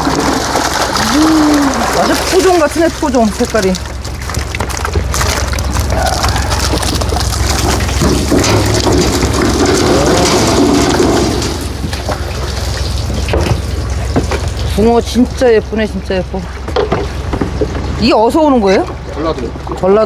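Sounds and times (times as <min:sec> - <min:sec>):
low engine hum: 0:00.0 - 0:20.0
water splashing and rushing: 0:00.0 - 0:20.0.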